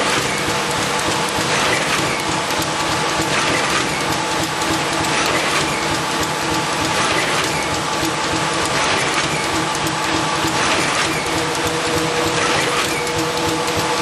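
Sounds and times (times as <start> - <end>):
machine clattering gears: 0.0 - 14.0.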